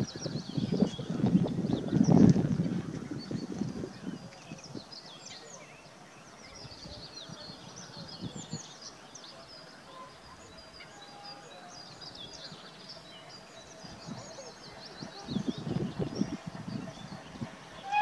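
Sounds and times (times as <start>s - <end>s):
faint outdoor background noise: 0.0s - 18.0s
songbirds chirping and singing: 0.0s - 18.0s.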